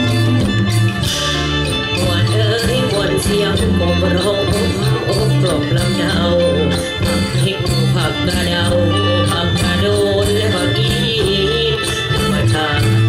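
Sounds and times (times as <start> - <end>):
folk music ensemble: 0.0 - 13.0
light percussion beat: 0.0 - 13.0.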